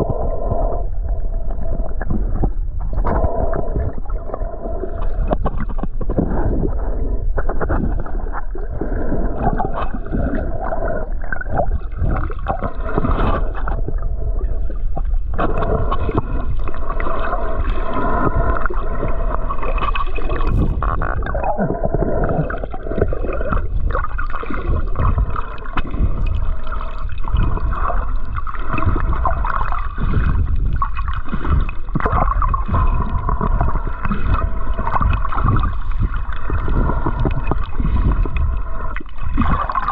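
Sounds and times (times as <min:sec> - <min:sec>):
gurgling sloshing water: 0:00.0 - 0:39.9
steady low rumble: 0:00.0 - 0:39.9.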